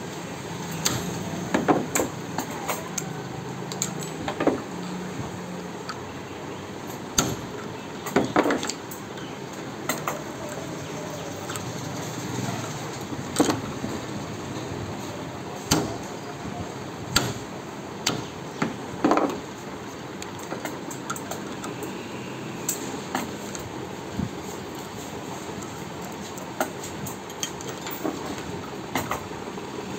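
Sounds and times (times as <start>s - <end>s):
steady background noise: 0.0s - 29.9s.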